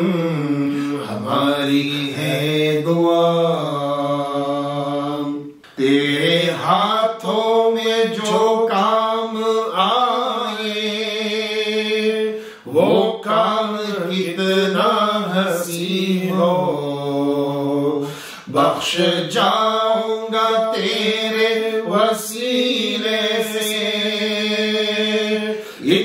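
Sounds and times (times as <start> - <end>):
person singing devotional song: 0.0 - 26.0.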